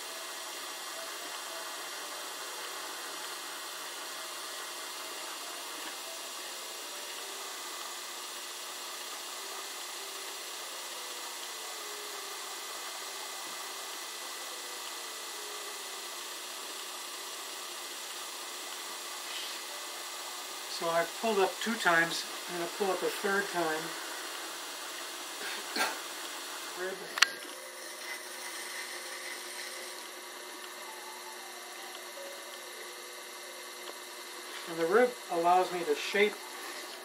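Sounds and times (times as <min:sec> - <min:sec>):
potter's wheel whirring: 0:00.0 - 0:37.0.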